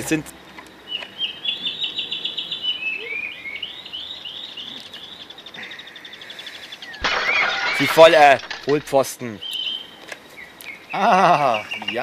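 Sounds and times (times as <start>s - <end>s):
songbird chirping and trilling: 0.0s - 12.0s.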